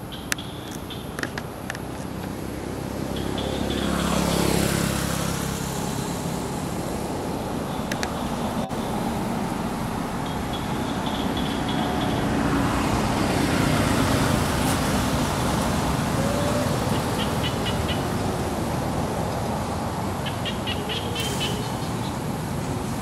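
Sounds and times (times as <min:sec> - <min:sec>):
road traffic rumble and hiss: 0:00.0 - 0:23.0
vehicle passing: 0:00.4 - 0:23.0.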